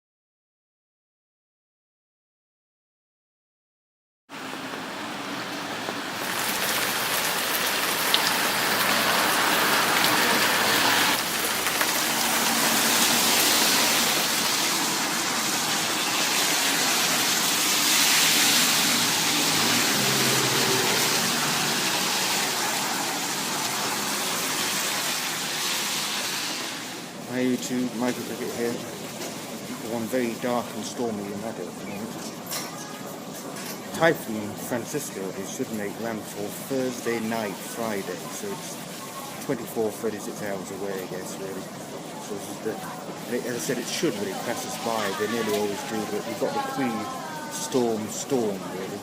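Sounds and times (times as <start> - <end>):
heavy rain falling: 4.3 - 32.2, 34.0 - 49.0.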